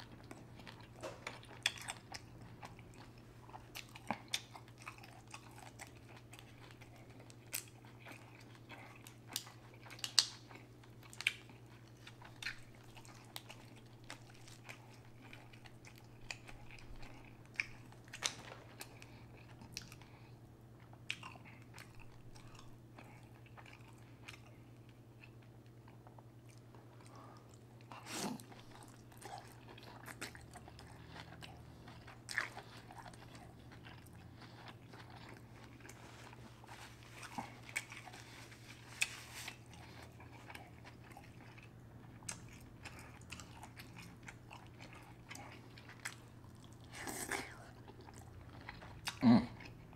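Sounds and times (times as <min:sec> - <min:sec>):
chewing and mouth sounds: 0:00.0 - 0:49.9
steady low hum: 0:00.0 - 0:49.9.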